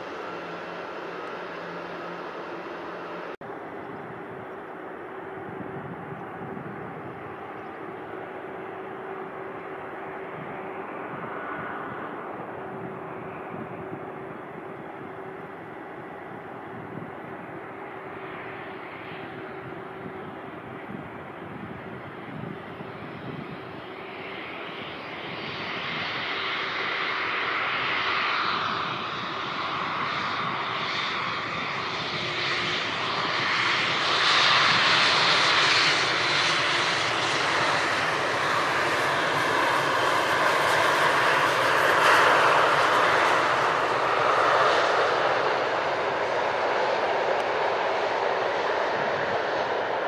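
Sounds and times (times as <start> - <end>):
airliner engines rushing: 0.0 - 50.0.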